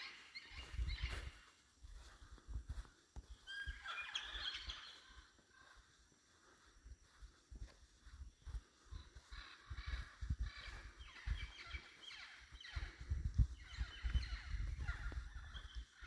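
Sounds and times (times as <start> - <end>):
forest birds calling: 0.0 - 16.0.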